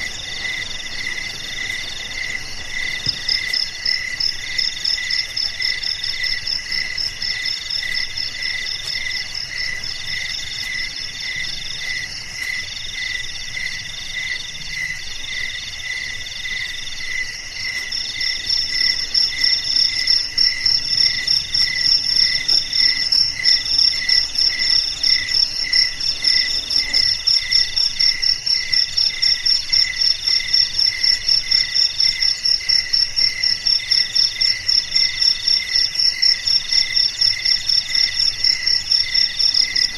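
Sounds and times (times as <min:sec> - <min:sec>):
crickets chirping: 0:00.0 - 0:39.9
high rapid insect trill: 0:00.0 - 0:39.9.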